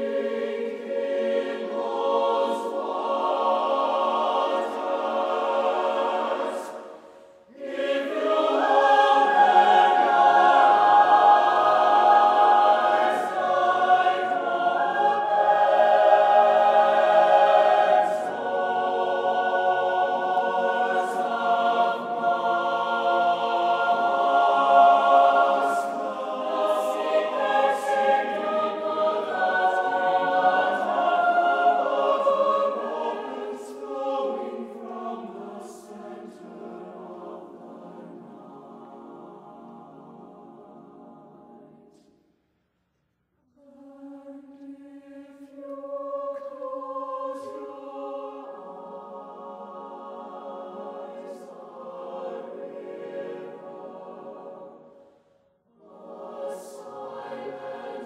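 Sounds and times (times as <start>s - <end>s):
choir holding long notes: 0.0s - 42.3s, 43.5s - 58.0s.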